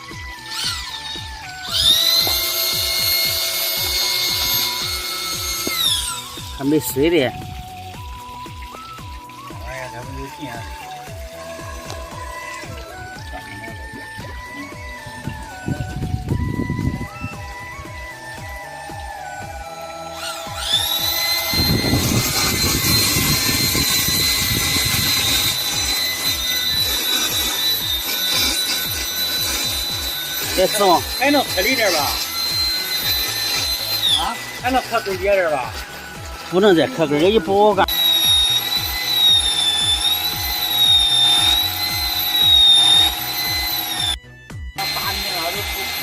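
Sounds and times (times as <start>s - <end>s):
background music with a beat: 0.0s - 46.0s
electric drill motor whine: 0.0s - 46.0s
rough churning drilling noise: 0.0s - 46.0s.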